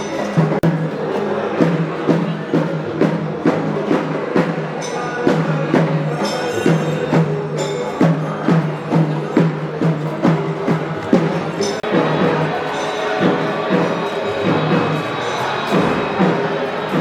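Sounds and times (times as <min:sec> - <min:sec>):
cymbal clashes: 0:00.0 - 0:17.0
drums beating: 0:00.0 - 0:17.0.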